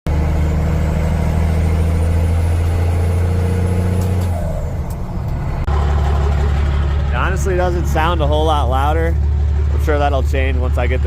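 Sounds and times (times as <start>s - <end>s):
diesel engine drone: 0.1s - 11.0s.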